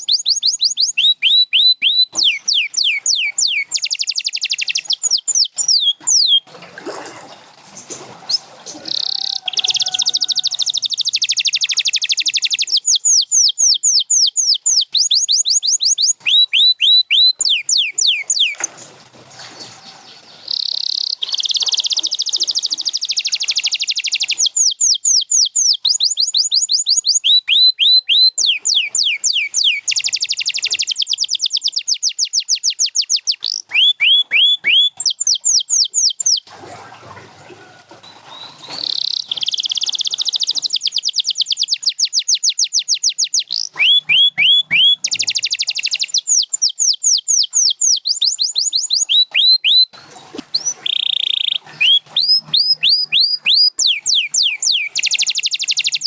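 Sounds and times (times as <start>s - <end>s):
canary singing: 0.0s - 6.5s, 8.2s - 36.5s, 37.5s - 56.0s.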